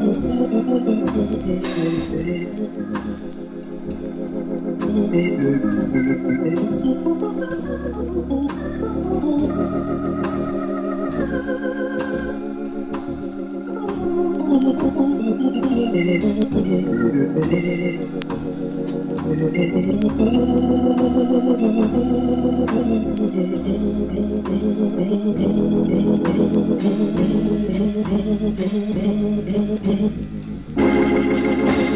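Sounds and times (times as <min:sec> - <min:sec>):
jazz organ chords: 0:00.0 - 0:31.9
low bass notes: 0:00.0 - 0:31.9.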